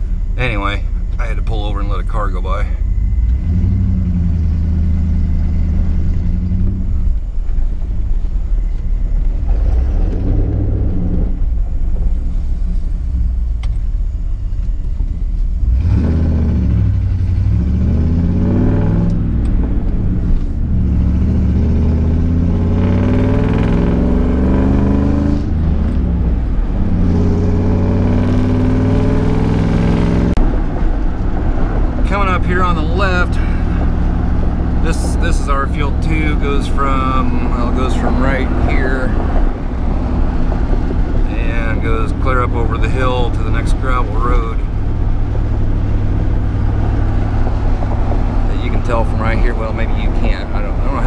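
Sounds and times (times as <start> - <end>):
pickup engine accelerating: 0.0 - 51.0
road and tyre noise: 0.0 - 51.0.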